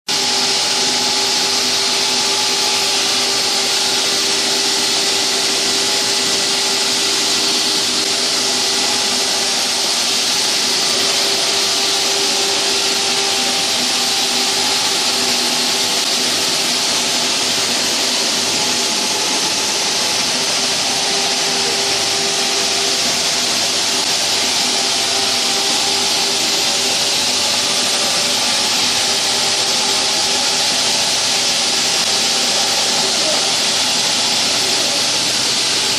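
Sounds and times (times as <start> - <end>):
wall saw cutting concrete: 0.1 - 35.9.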